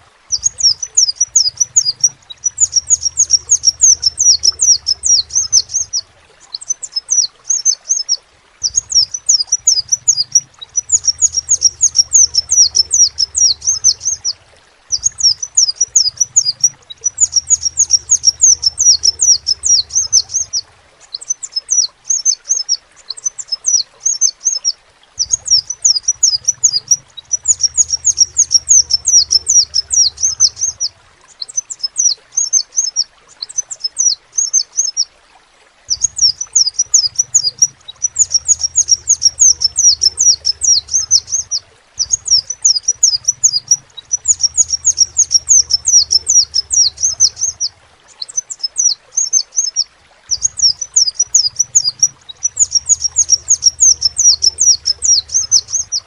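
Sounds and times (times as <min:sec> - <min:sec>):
bird chips and trills: 0:00.3 - 0:35.1, 0:35.9 - 0:56.0.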